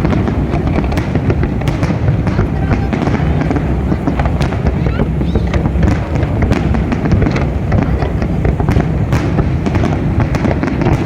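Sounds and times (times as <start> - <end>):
continuous low rumble: 0.0 - 11.0
fireworks bangs and crackles: 0.0 - 11.0.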